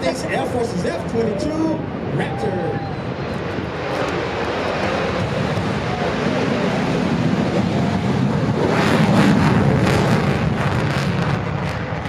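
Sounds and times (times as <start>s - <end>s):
jet engines roaring on takeoff: 0.0s - 12.0s.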